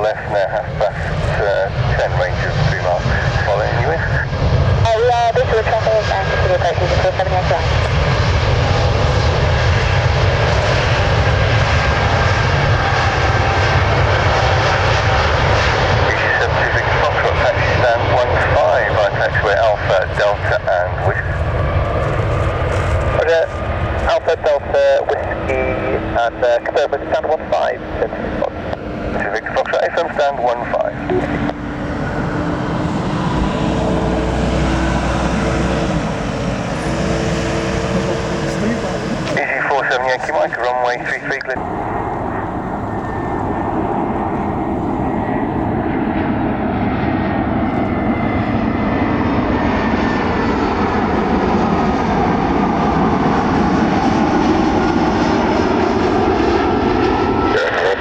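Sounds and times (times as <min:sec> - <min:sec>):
jet airliner engines rumbling: 0:00.0 - 0:58.0.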